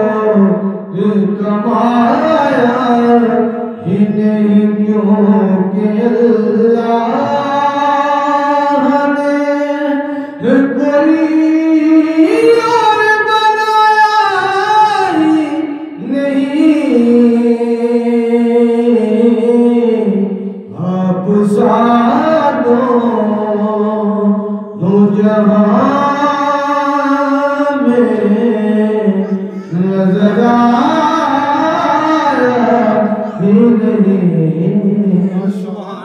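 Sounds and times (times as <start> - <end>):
man singing unaccompanied: 0.0 - 36.0.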